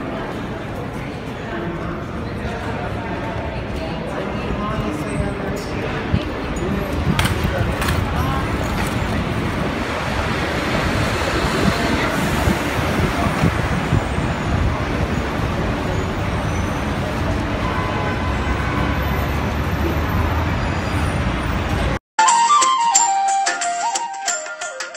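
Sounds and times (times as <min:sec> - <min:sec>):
street traffic: 0:00.0 - 0:24.9.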